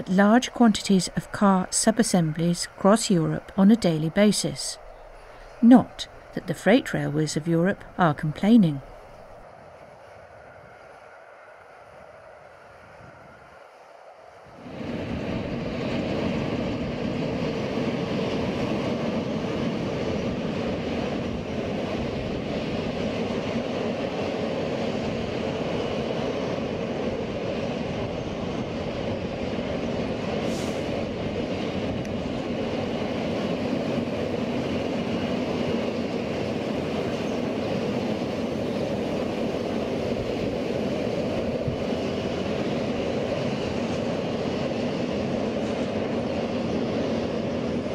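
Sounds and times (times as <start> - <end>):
train wheels rolling on rails: 8.8 - 47.9.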